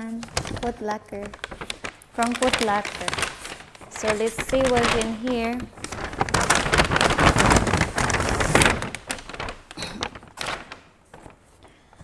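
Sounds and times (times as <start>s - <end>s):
paper bag rustling: 0.0s - 12.0s.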